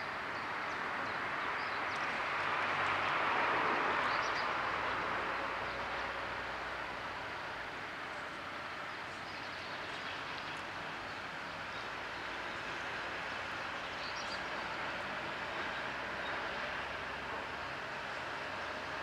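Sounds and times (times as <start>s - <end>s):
rail yard background noise: 0.0s - 19.0s.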